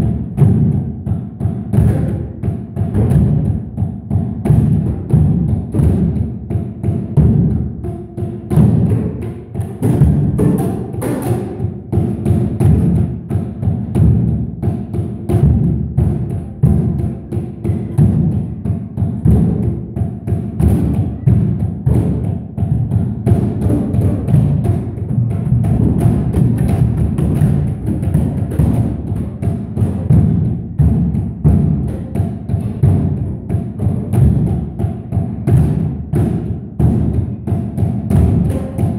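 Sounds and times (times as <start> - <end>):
group drumming on tyres: 0.0 - 38.9.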